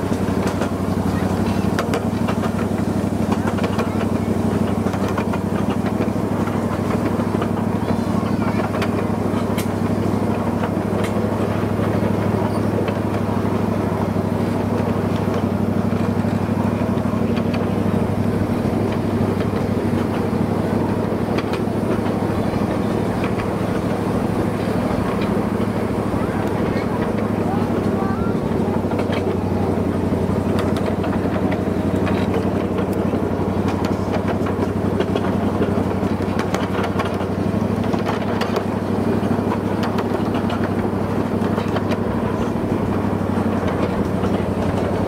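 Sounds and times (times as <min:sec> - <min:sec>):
miniature train engine running: 0:00.0 - 0:45.0.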